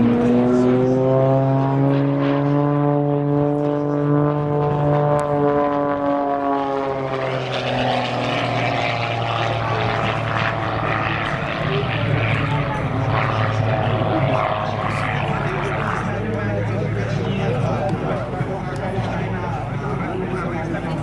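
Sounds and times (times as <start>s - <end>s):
propeller plane flying past: 0.0s - 21.0s.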